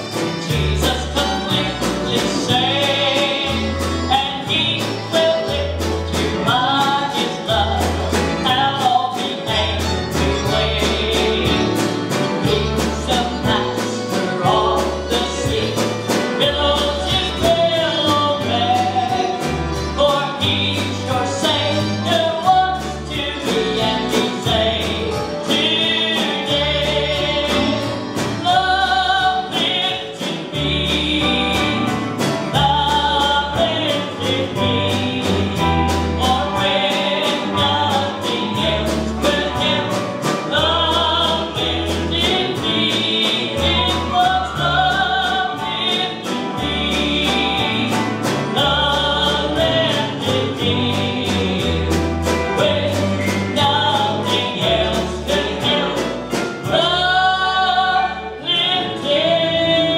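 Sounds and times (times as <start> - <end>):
country gospel band playing: 0.0 - 59.9
lead vocal singing: 0.0 - 59.9
steady drum beat: 0.0 - 59.9.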